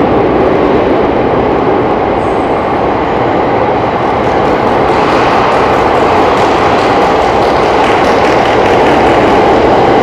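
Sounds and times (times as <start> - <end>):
train rumbling in tunnel: 0.0 - 10.0.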